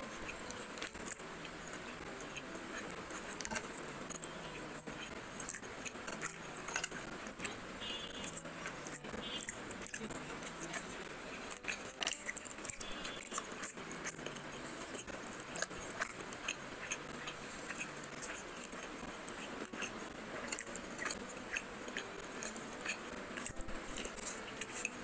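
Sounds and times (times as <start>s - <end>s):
chewing and wet mouth smacks: 0.0s - 25.0s.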